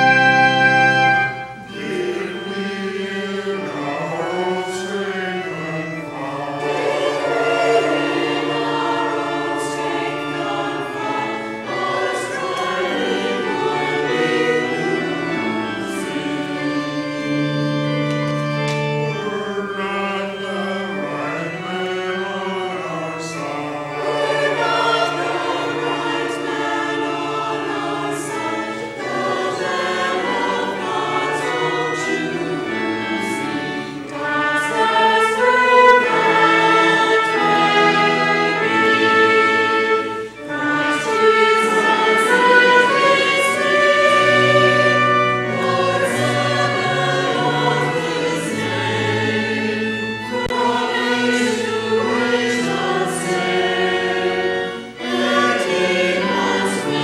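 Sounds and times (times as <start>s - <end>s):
choir singing: 0.0s - 57.0s
keyboard accompaniment: 0.0s - 57.0s.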